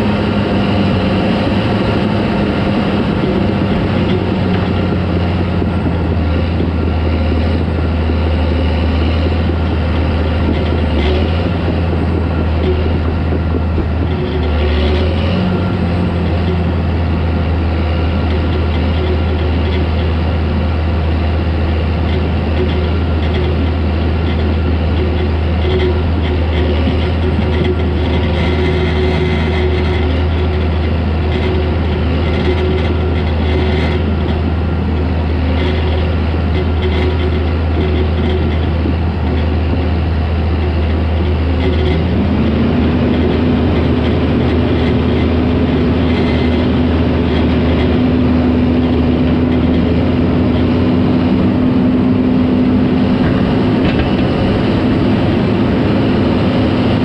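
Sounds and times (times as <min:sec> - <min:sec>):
crawler tractor diesel engine running: 0:00.0 - 0:57.0.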